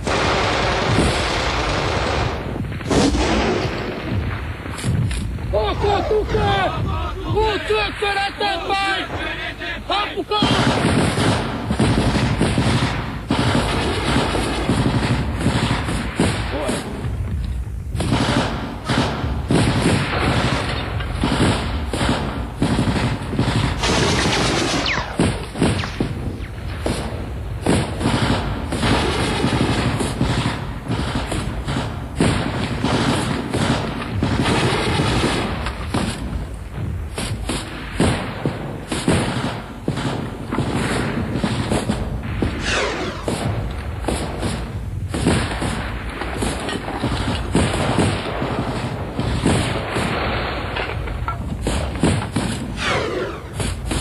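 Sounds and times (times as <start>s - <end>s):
assault rifles firing: 0.0s - 54.0s.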